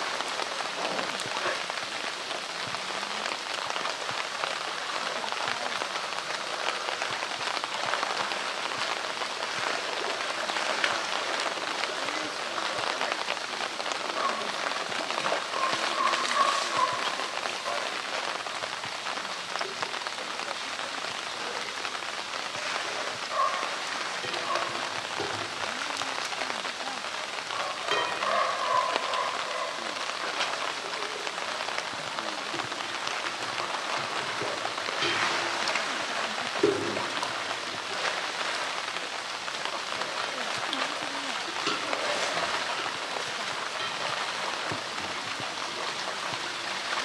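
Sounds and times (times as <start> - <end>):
pool water splashing: 0.0 - 47.0.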